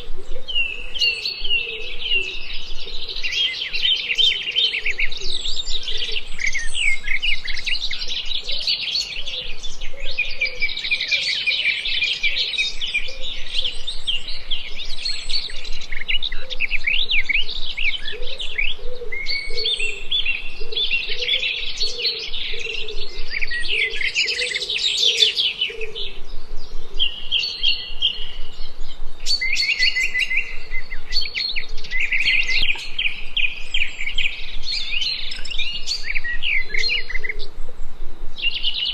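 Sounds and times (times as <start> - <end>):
songbird chorus: 0.0 - 38.9.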